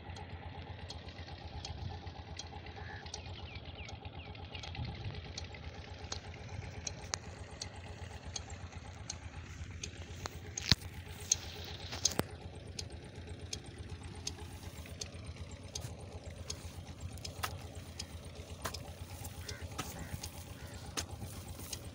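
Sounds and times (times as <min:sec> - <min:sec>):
engine pulsing rumble: 0:00.0 - 0:21.9
sharp clicks: 0:00.2 - 0:21.9.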